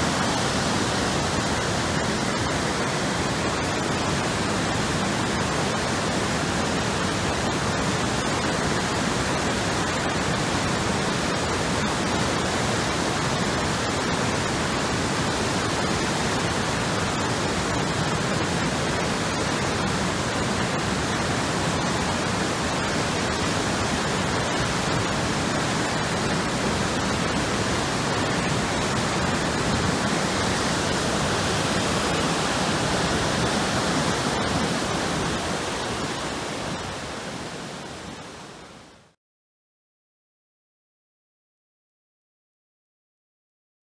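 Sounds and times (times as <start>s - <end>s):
flooded river rushing: 0.0s - 38.9s.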